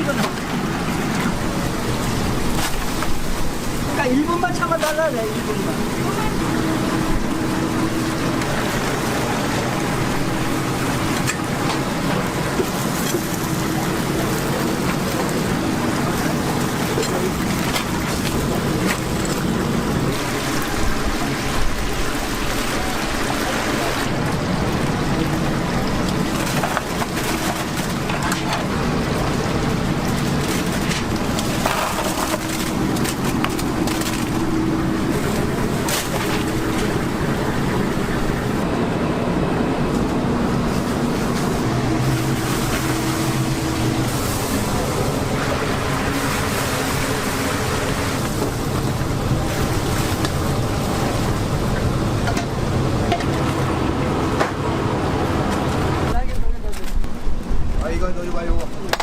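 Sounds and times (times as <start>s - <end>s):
chicken deep-frying in oil: 0.0s - 56.8s.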